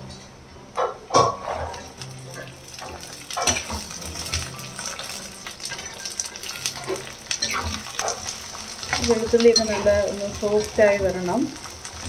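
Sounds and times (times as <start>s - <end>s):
garlic and spoon clattering on pan: 1.1s - 11.7s
oil sizzling in a pan: 1.2s - 12.0s.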